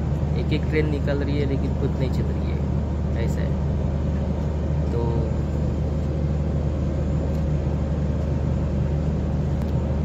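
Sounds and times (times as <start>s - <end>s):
halted train humming: 0.0s - 10.0s.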